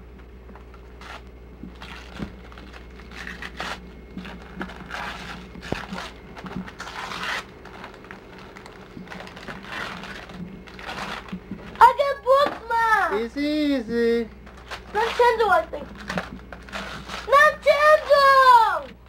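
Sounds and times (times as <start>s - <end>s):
wrapping paper crinkling and tearing: 0.9s - 13.3s, 14.4s - 19.0s.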